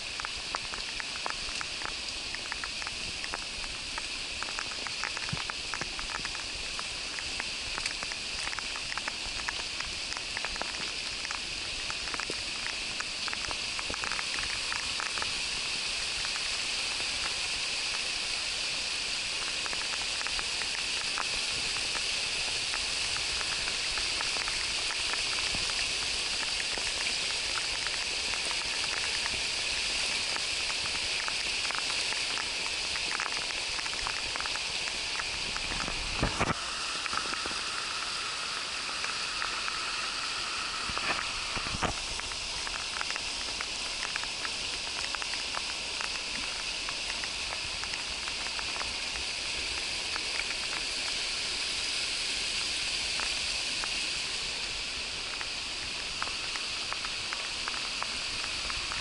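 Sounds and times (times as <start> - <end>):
rain hiss: 0.0 - 59.0
raindrops pattering on camera: 0.0 - 59.0.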